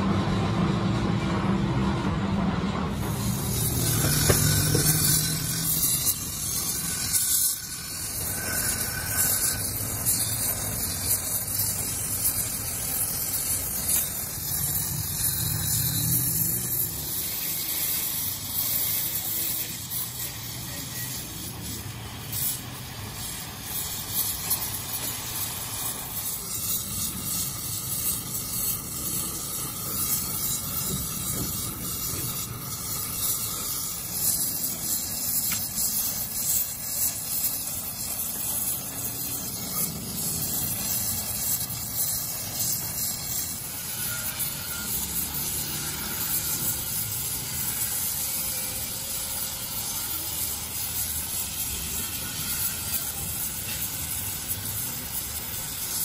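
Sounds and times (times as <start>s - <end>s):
welding torch flame hissing: 0.0s - 56.0s.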